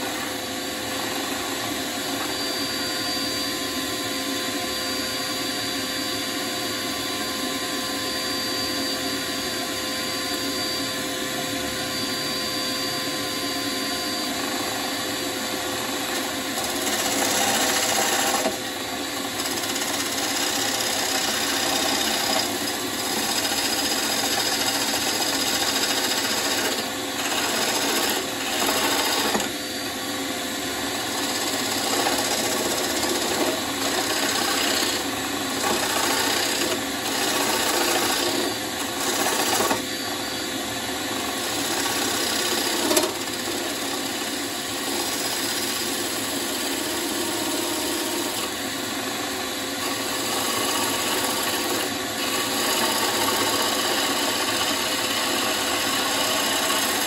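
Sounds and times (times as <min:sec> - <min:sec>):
lathe tool shaving wood: 0:00.0 - 0:05.9, 0:08.1 - 0:57.0
lathe humming: 0:00.0 - 0:57.0.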